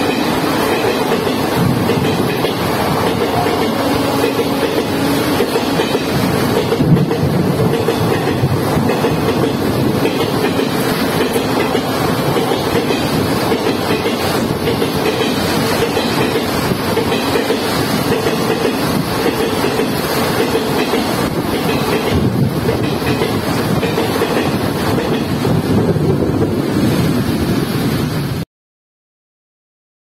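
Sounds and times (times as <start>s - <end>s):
train coaches rushing past: 0.0s - 28.4s.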